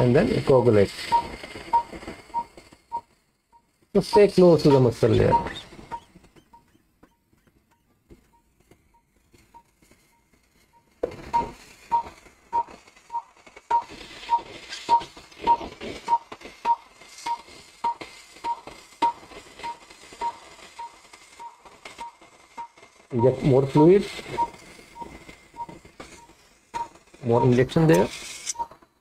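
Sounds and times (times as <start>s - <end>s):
patient monitor beeping: 0.0s - 28.8s.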